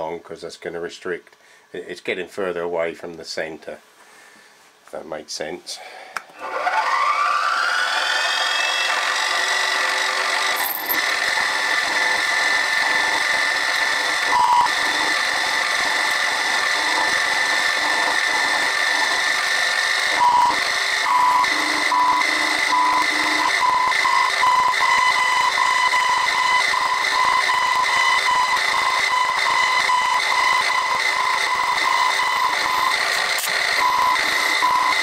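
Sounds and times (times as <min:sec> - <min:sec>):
end mill cutting aluminium: 0:06.4 - 0:35.0
milling machine spindle whine: 0:06.4 - 0:35.0.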